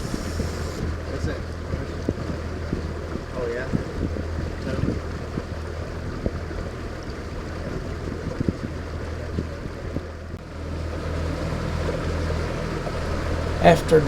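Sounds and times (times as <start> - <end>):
motorboat engine drone: 0.0 - 14.0
water noise: 0.0 - 14.0
wind: 0.0 - 14.0.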